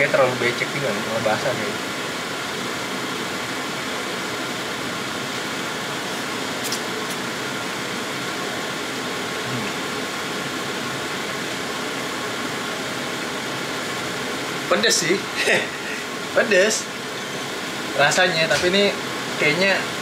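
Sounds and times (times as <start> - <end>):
fan hissing and humming: 0.0 - 20.0.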